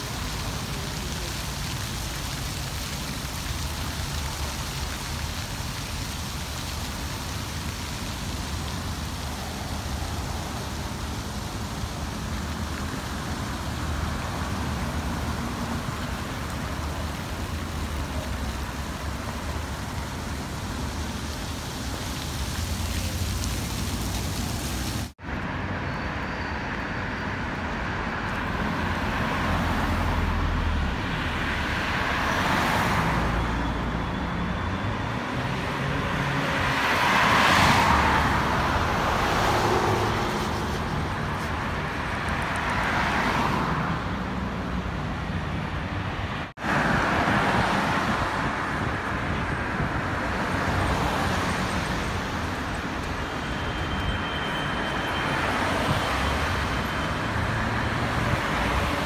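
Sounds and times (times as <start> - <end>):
hum of passing cars: 0.0 - 59.0.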